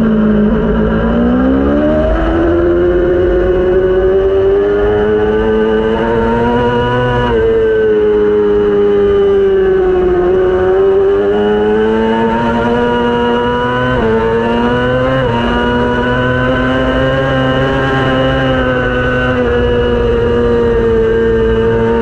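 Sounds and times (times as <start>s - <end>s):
racing motorcycle engine revving: 0.0s - 22.0s.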